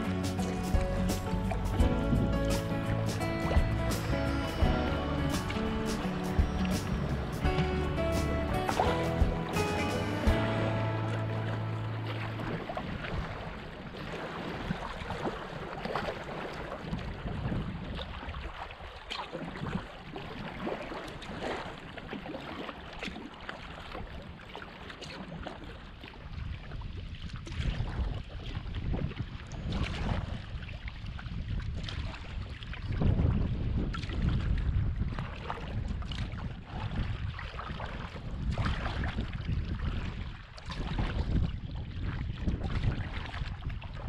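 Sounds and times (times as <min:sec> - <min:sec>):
water lapping around a kayak: 0:00.0 - 0:44.0
wind rumble on microphone: 0:00.0 - 0:44.0
small water splashes: 0:08.7 - 0:44.0.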